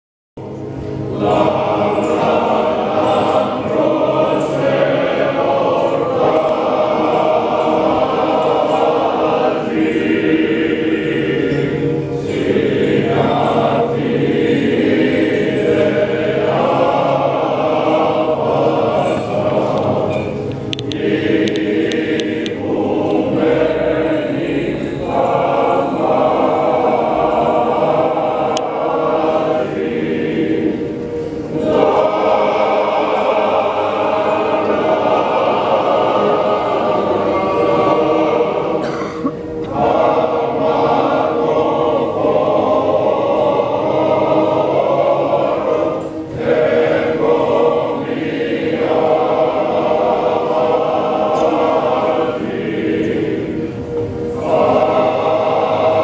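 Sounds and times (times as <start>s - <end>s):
choir singing liturgical chant: 0.4s - 56.0s.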